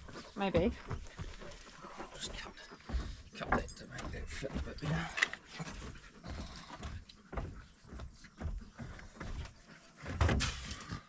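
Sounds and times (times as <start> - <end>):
dogs scrabbling in a kennel: 0.0 - 11.0.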